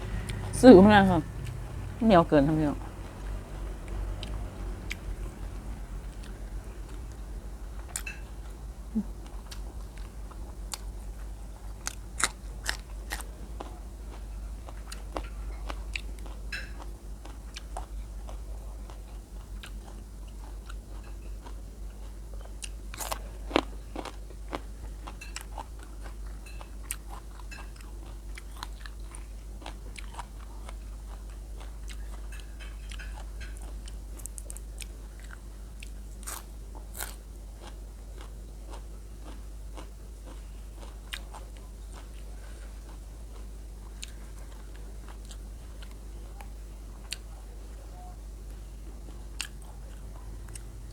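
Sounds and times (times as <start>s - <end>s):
chewing and biting food: 0.0s - 47.3s, 48.5s - 50.9s
steady low hum: 0.0s - 50.9s.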